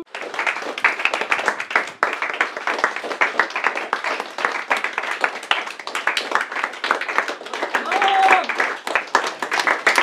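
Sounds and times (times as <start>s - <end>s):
people applauding: 0.0s - 10.0s.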